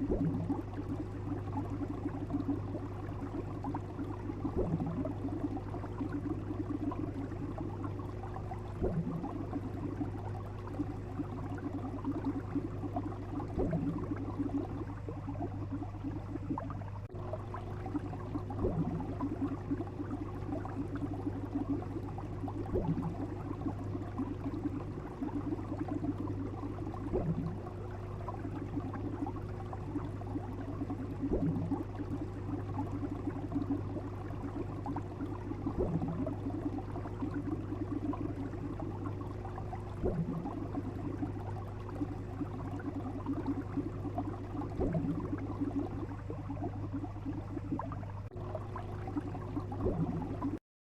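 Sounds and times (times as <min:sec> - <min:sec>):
constant low hum: 0:00.0 - 0:50.6
water bubbling: 0:00.0 - 0:50.6.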